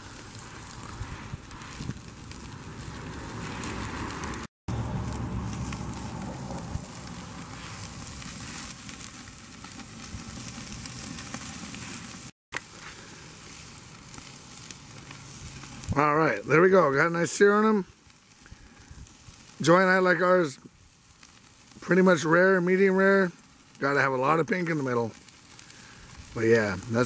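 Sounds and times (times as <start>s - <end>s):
steaks sizzling on a grill: 0.0s - 27.0s.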